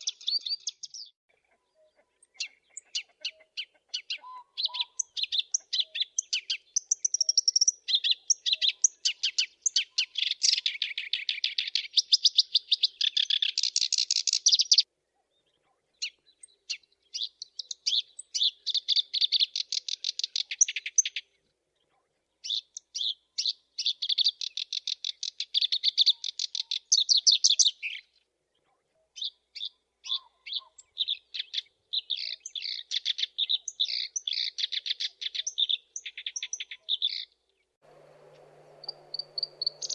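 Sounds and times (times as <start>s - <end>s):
warbler singing: 0.0s - 39.9s.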